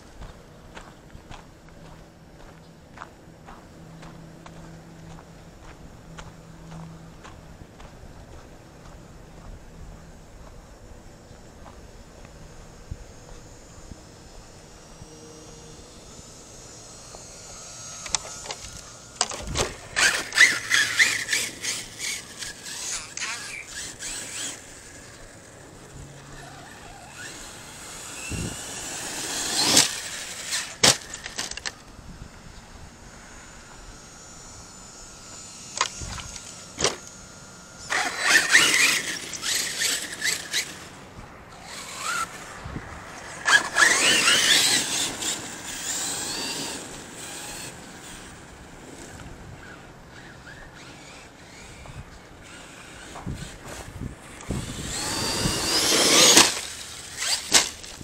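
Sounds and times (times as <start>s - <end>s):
tyres on dirt: 0.0s - 58.0s
electric motor whining: 8.8s - 58.0s.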